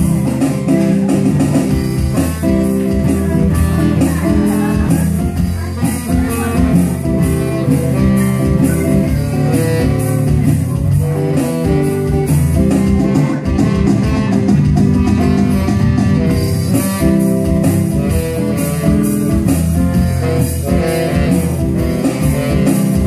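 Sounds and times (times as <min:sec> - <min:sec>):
live band music: 0:00.0 - 0:23.0
strummed acoustic guitar: 0:00.0 - 0:23.0.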